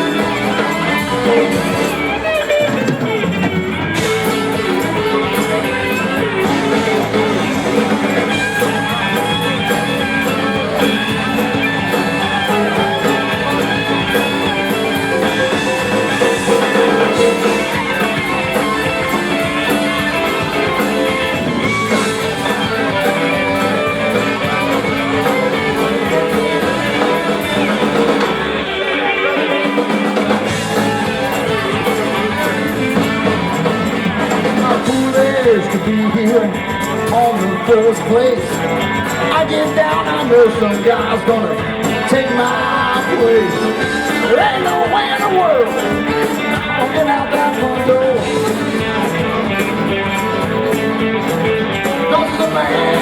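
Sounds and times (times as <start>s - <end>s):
bass: 0.0s - 53.0s
drums: 0.0s - 53.0s
electric guitar: 0.0s - 53.0s.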